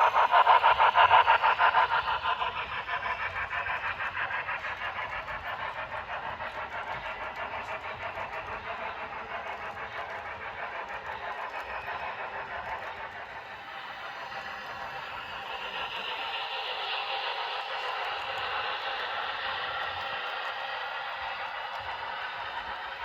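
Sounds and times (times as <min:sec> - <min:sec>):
model train running past: 0:00.0 - 0:23.0.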